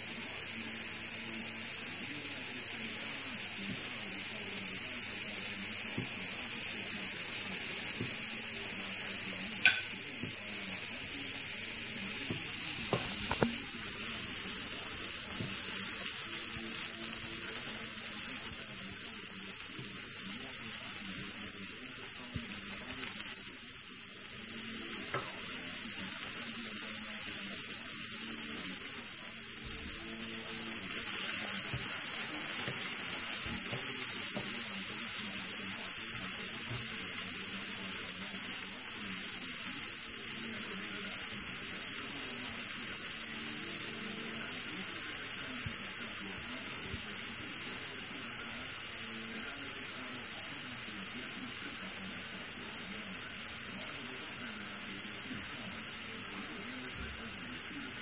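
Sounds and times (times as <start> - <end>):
faint muffled sounds: 0.0 - 58.0.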